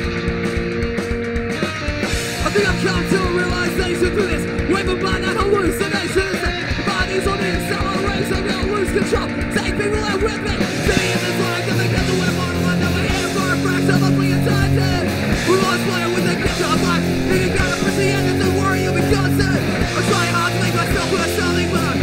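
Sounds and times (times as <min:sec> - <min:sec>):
punk rock band playing live: 0:00.0 - 0:22.0.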